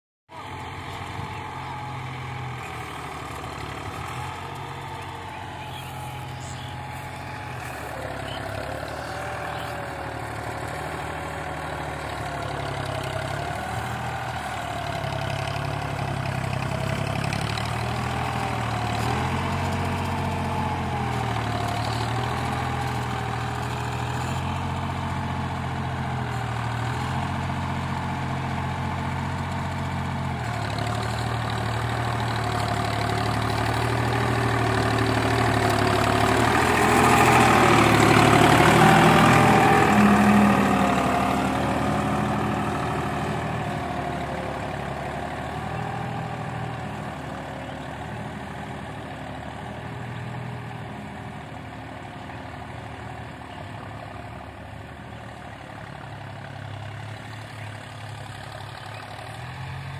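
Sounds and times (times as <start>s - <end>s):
tractor engine under load: 0.3s - 59.9s.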